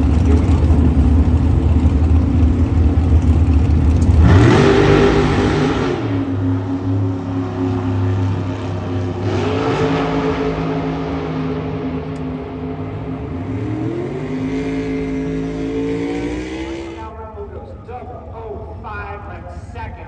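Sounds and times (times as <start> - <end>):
drag car engines revving: 0.0 - 20.0.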